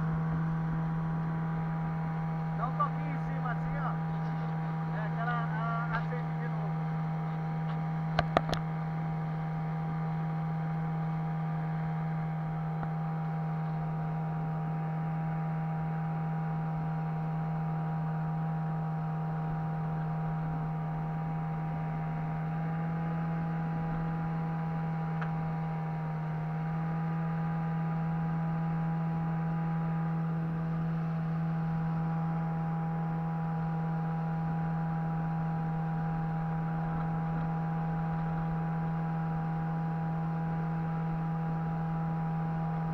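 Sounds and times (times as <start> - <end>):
outboard motor running: 0.0 - 42.9.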